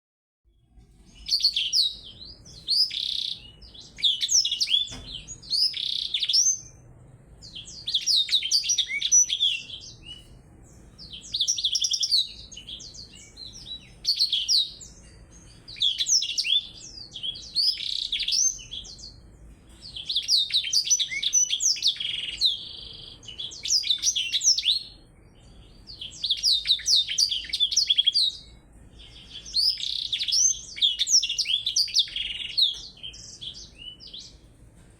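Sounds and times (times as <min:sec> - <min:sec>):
songbirds twittering: 0:00.5 - 0:34.9.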